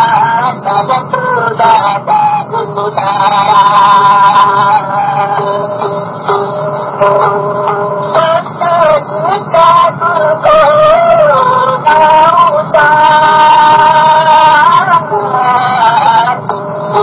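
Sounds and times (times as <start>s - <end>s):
music: 0.0s - 17.0s
person singing ornamented notes: 0.0s - 17.0s.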